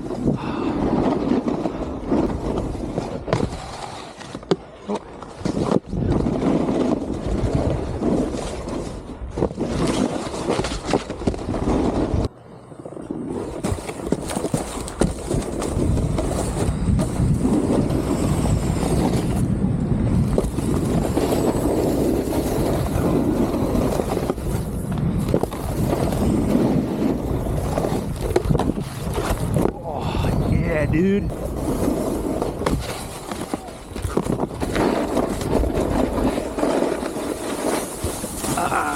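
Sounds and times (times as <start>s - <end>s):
snowboard scraping over packed snow: 0.0s - 38.9s
wind on microphone: 5.3s - 12.3s, 13.0s - 38.9s.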